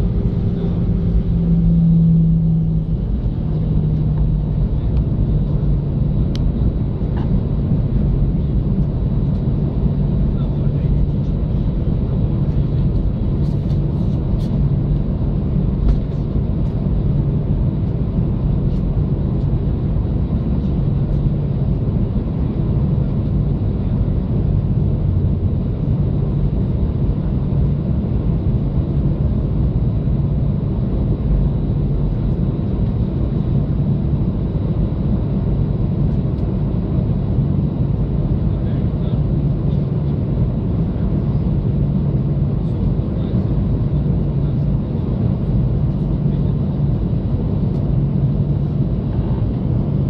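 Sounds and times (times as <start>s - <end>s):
jet engines humming: 0.0s - 50.0s.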